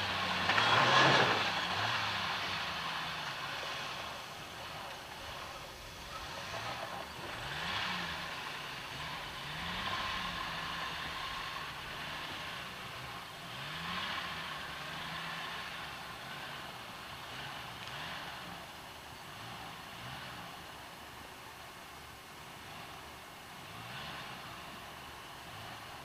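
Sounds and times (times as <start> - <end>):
engine revving at low speed: 0.0 - 26.0.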